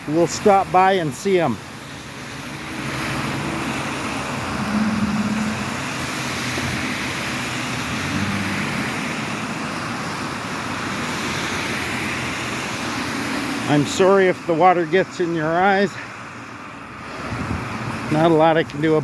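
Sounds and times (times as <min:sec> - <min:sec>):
tyres hissing on wet road: 0:00.0 - 0:19.0
vehicle engines humming: 0:00.0 - 0:19.0.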